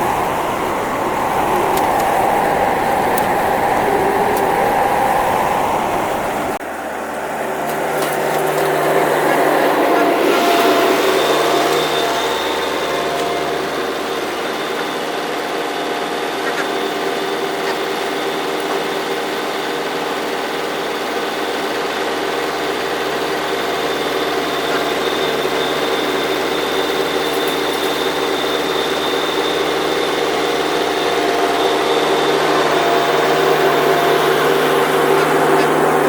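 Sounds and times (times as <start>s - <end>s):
engine humming: 0.0s - 36.0s.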